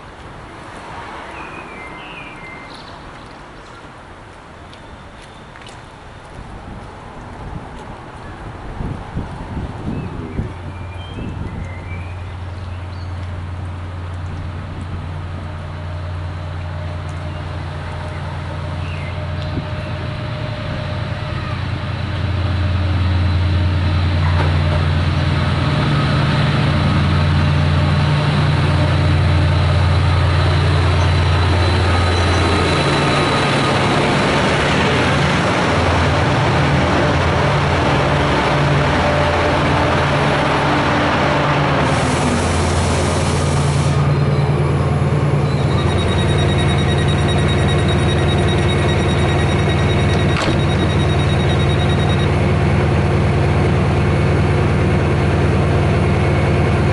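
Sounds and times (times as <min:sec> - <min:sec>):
wheel-on-rail noise: 0:03.1 - 0:56.9
locomotive engine drone: 0:06.6 - 0:56.9.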